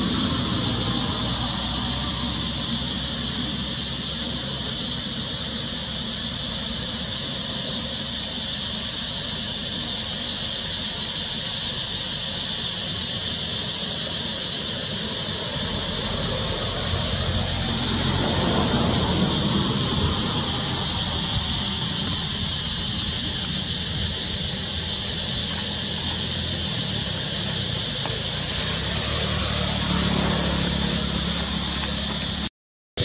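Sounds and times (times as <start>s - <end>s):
high-pitched outdoor hiss: 0.0s - 32.5s.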